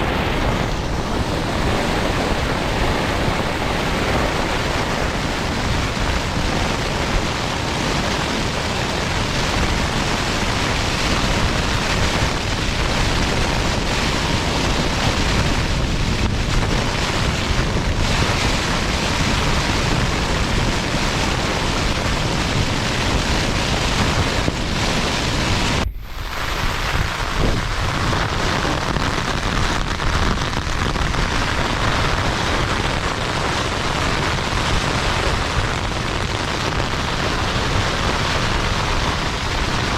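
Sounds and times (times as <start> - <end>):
gusty wind: 0.0 - 39.9
heavy rain: 0.0 - 39.9.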